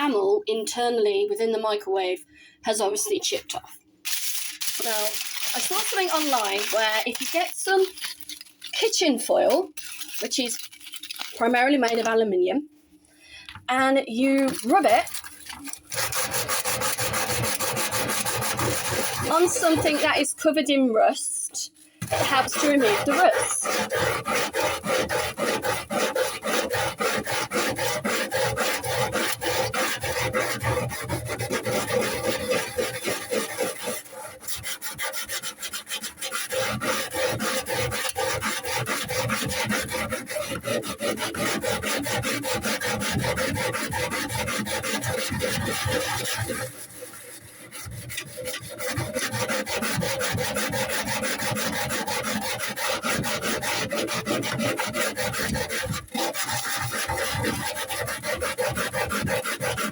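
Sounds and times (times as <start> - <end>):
foil scrubbing rusty metal: 2.7 - 12.3, 13.7 - 59.9.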